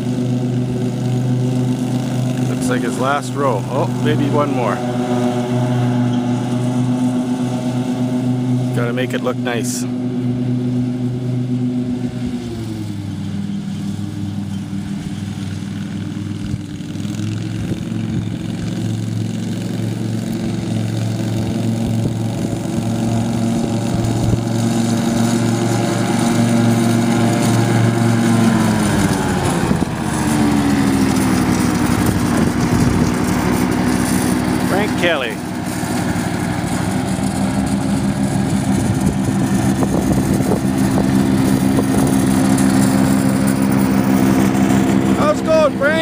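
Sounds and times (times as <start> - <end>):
riding mower engine running: 0.0 - 46.0.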